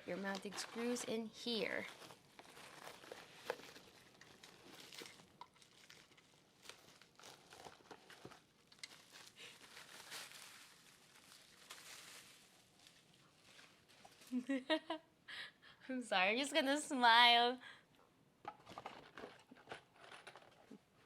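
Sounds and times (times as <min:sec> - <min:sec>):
packaging crinkling and rustling: 0:00.0 - 0:14.4, 0:18.5 - 0:21.0.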